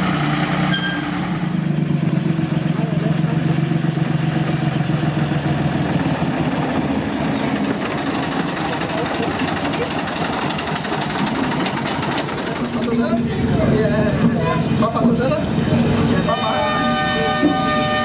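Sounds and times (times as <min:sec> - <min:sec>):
diesel locomotive engine running: 0:00.0 - 0:18.0.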